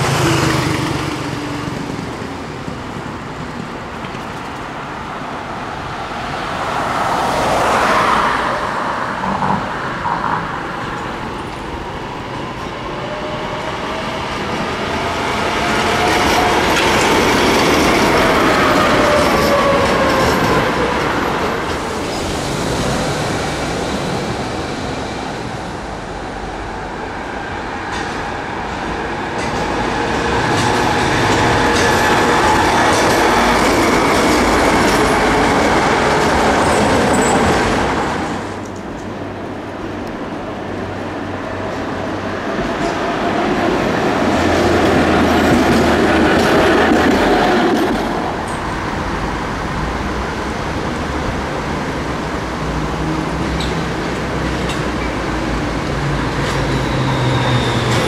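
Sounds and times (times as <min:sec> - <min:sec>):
road traffic: 0:00.0 - 0:58.0.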